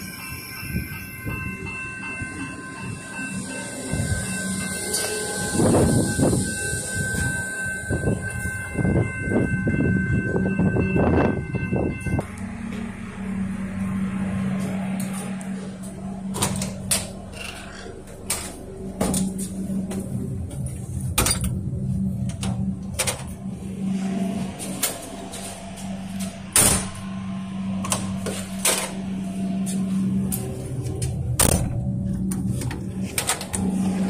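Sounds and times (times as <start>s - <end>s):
train carriage hum: 0.0s - 34.0s.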